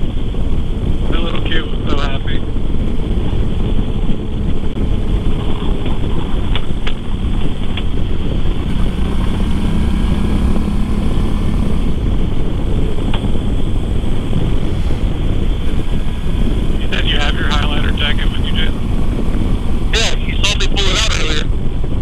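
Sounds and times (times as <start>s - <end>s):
motorcycle engine hum: 0.0s - 22.0s
wind rushing over microphone: 0.0s - 22.0s.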